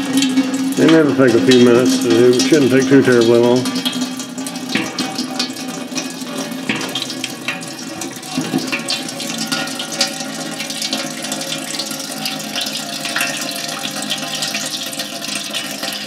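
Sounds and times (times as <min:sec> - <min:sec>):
coolant splashing into metal container: 0:00.0 - 0:16.0.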